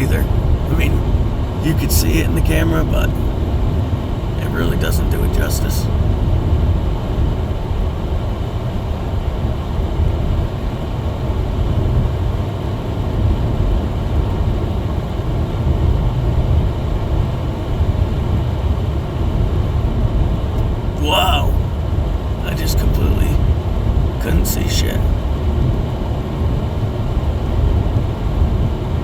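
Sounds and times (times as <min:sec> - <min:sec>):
car engine rumble from inside cabin: 0:00.0 - 0:29.0.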